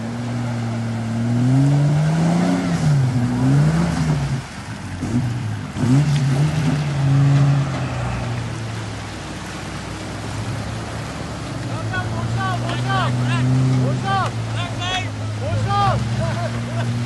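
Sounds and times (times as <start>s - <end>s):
engine revving under load: 0.0s - 17.0s
water splashing: 0.0s - 17.0s.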